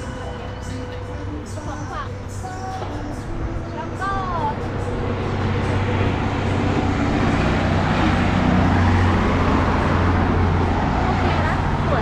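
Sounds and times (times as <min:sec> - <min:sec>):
vehicle passing on highway: 0:00.0 - 0:12.0.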